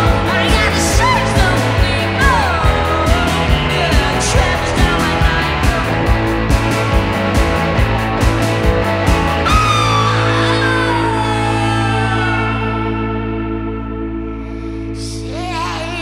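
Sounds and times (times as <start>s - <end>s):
electric guitars: 0.0s - 16.0s.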